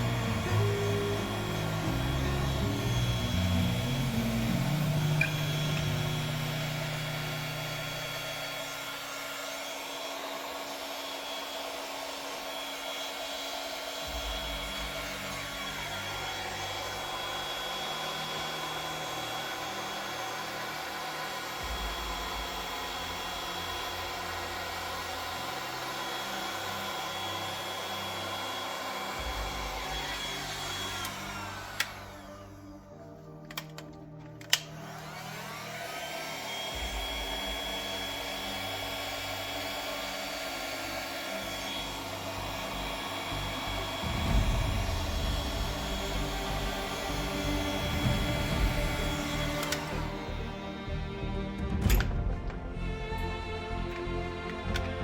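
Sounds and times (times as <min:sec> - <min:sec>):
air blower running: 0:00.0 - 0:55.0.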